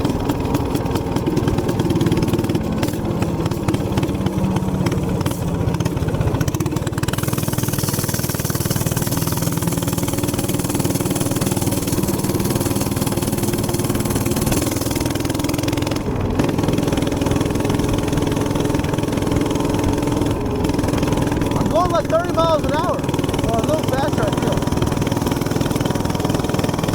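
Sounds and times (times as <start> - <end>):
minibike engine running: 0.0 - 26.9.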